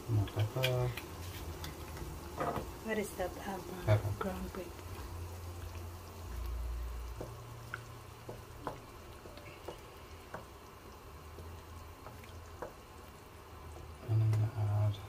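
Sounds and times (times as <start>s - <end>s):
sauce simmering in a frying pan: 0.0s - 15.0s.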